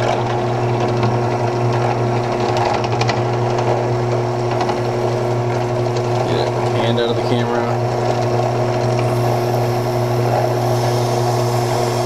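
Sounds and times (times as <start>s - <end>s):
drill press motor humming: 0.0s - 12.0s.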